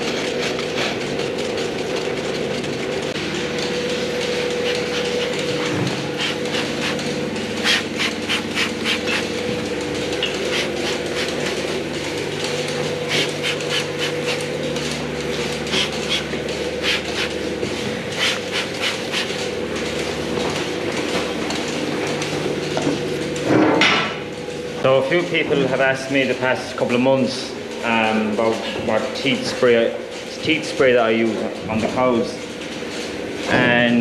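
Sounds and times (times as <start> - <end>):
vacuum pump hum: 0.0 - 34.0.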